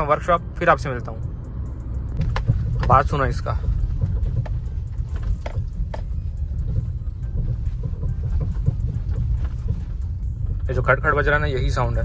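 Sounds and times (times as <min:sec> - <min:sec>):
car suspension knocking and rattling: 0:00.0 - 0:12.0
low road rumble: 0:00.0 - 0:12.0.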